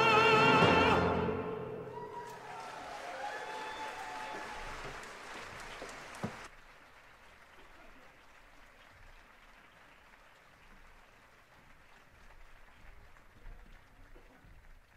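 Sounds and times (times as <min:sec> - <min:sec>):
audience applause: 0:01.9 - 0:14.9.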